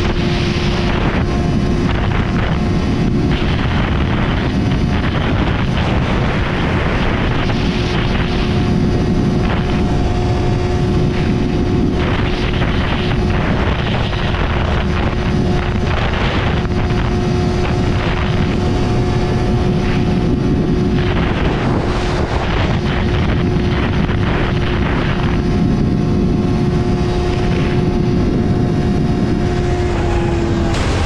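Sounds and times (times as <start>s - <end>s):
motorcycle engine droning: 0.0s - 31.0s
wind rushing past microphone: 0.0s - 31.0s.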